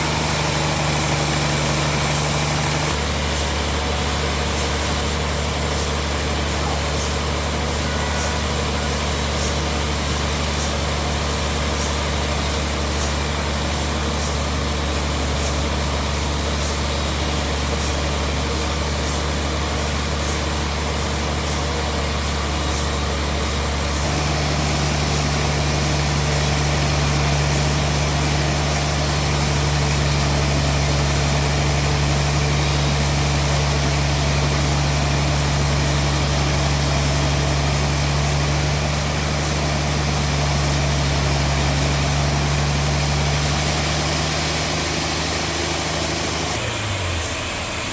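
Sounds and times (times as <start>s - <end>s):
bandsaw machinery humming: 0.0s - 47.9s.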